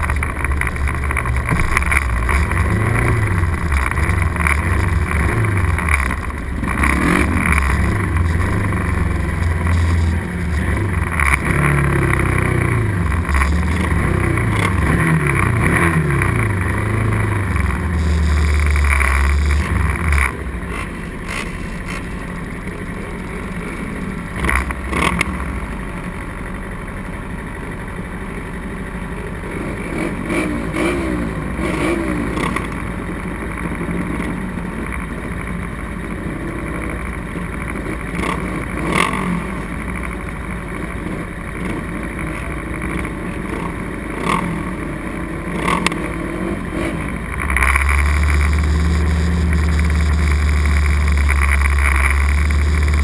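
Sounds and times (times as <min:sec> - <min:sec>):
racing motorcycle engines revving: 0:00.0 - 0:53.0.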